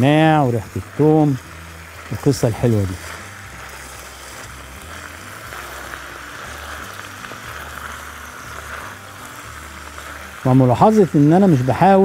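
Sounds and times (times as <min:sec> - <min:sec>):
vegetables sizzling in oil: 0:00.0 - 0:12.0
wooden spatula stirring: 0:00.0 - 0:12.0.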